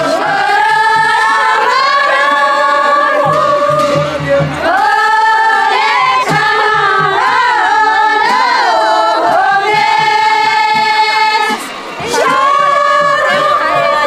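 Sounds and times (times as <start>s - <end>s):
women singing unaccompanied: 0.0s - 14.0s.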